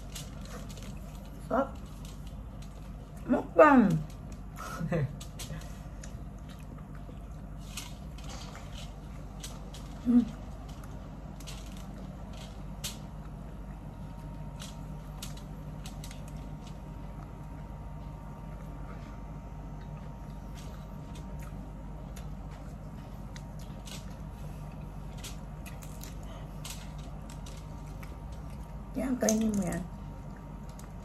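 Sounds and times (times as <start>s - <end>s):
biting and chewing corn: 0.0s - 3.3s, 4.1s - 31.0s
low hum: 0.0s - 31.0s.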